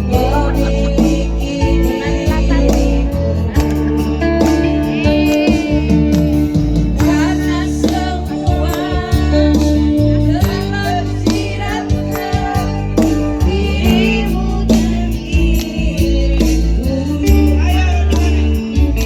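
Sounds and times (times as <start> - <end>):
steady beat: 0.0 - 17.9
guitar: 0.0 - 19.0
woman singing: 0.0 - 19.0.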